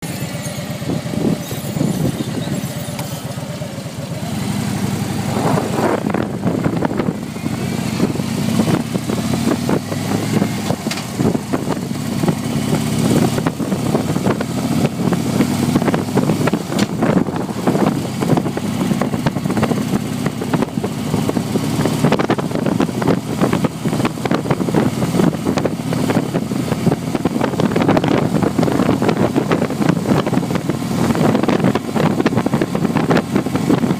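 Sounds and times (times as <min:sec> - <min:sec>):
motorcycle engine running: 0:00.0 - 0:33.9
wind buffeting microphone: 0:04.1 - 0:33.9.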